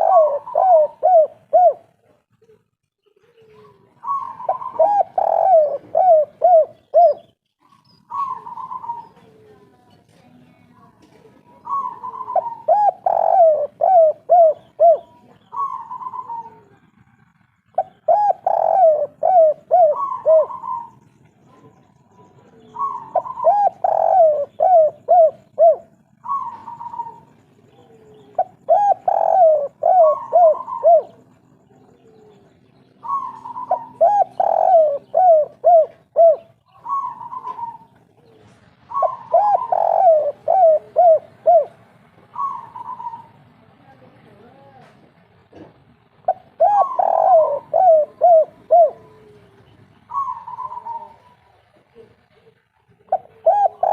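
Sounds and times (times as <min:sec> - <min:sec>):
dove cooing: 0:00.0 - 0:09.9, 0:10.8 - 0:43.6, 0:45.6 - 0:53.9.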